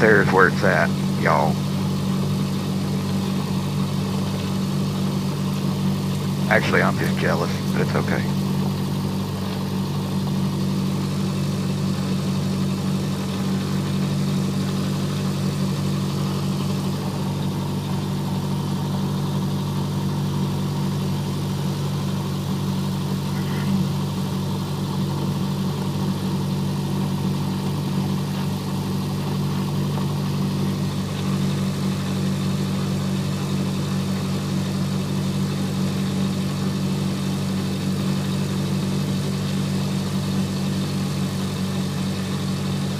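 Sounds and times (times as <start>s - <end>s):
aircraft engine and propeller idling: 0.0s - 42.9s.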